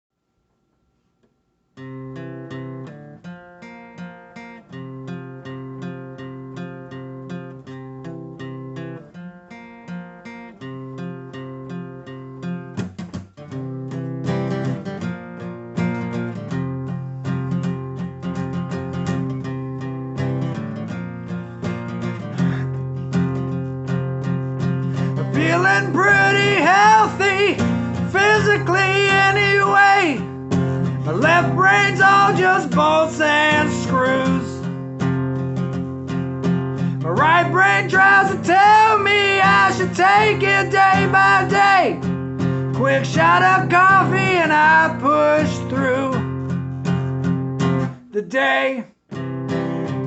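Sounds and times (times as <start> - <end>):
acoustic guitar strumming chords: 1.8 - 50.0.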